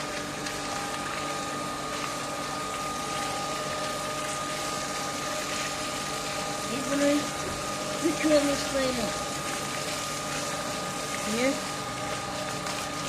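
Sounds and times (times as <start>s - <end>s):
water pump motor humming: 0.0s - 13.0s
water rushing: 2.2s - 13.0s.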